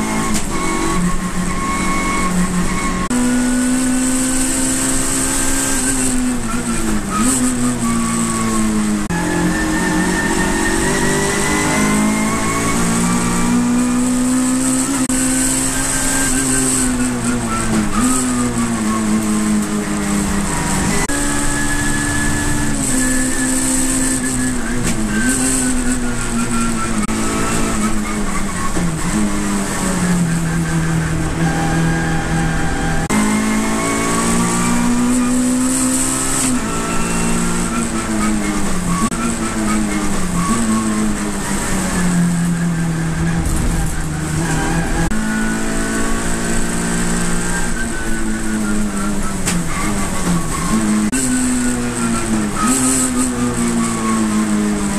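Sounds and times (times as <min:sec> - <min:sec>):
gear upshift: 0:00.0 - 0:54.9
race car engine accelerating: 0:00.0 - 0:54.9.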